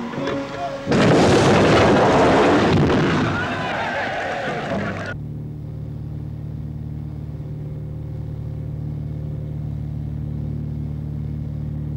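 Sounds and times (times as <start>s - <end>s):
low mechanical drone: 0.0s - 11.9s.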